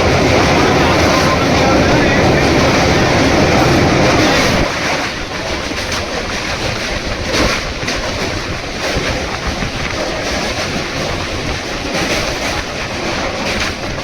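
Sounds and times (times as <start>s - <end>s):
train wheels rushing on rail: 0.0s - 14.0s.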